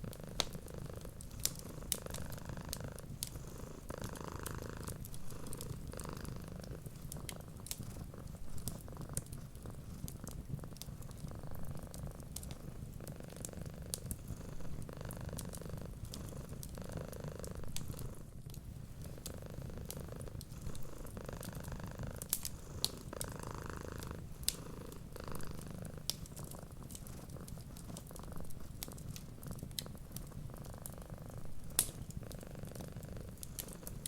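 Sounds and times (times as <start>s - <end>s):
cat purring: 0.0s - 34.0s
wood fire crackling: 0.0s - 34.0s.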